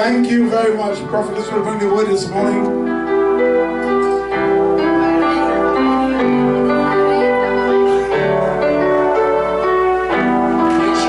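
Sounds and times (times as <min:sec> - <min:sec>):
electronic keyboard chords and melody: 0:00.0 - 0:11.0.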